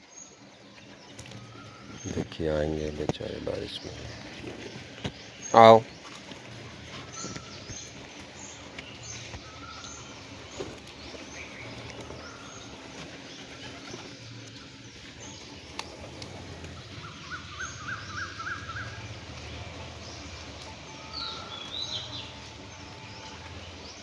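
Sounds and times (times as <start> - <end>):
small birds chirping: 0.0 - 24.0
rain hissing: 1.4 - 24.0.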